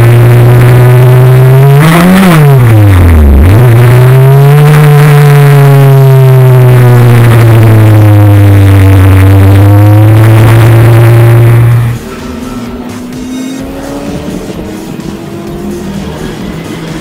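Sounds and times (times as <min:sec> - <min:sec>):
racing car engine: 0:00.0 - 0:17.0.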